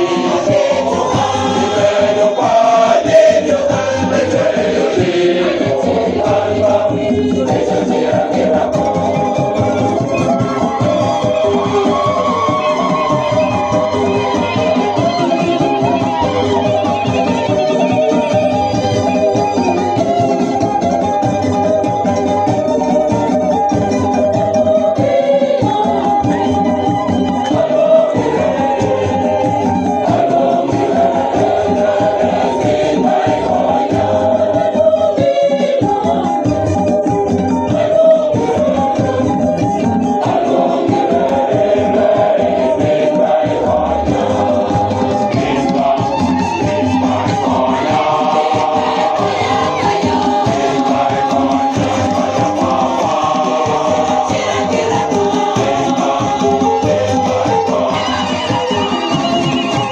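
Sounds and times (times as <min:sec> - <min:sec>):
choir and congregation singing hymn: 0:00.0 - 0:59.9
shaken percussion rhythm: 0:00.0 - 0:59.9.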